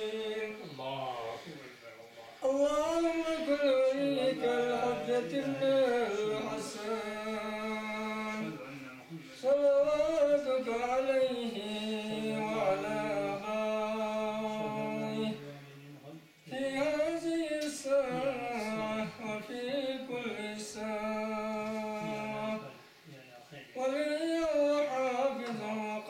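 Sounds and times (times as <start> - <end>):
man chanting into microphone: 0.0 - 1.4, 2.4 - 15.6, 16.5 - 22.8, 23.7 - 26.0.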